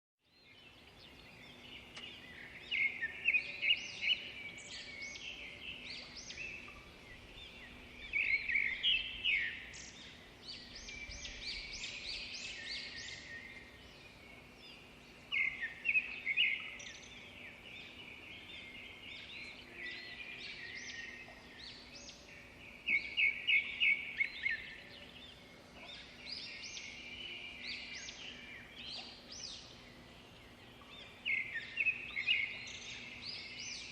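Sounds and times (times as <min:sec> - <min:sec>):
birds singing and chirping: 0:00.2 - 0:33.9.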